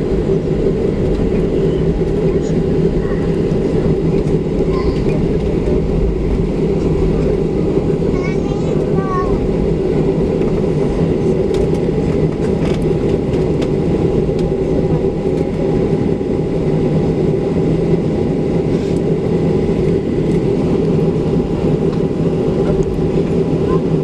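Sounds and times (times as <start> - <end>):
airplane cabin engine drone: 0.0 - 24.0.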